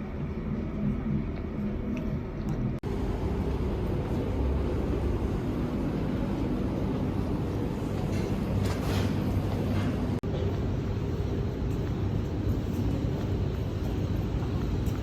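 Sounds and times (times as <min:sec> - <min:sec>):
low rumble of vehicle: 0:00.0 - 0:15.0.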